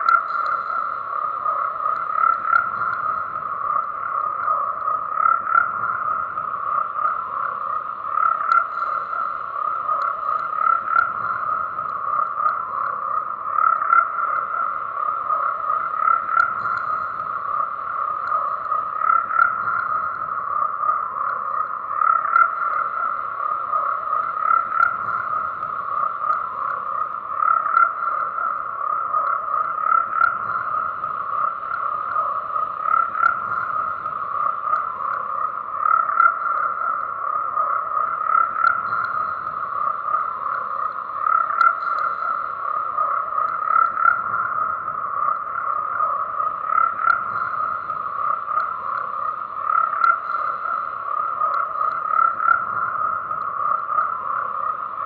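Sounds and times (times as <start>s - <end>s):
frogs croaking in chorus: 0.0s - 55.0s.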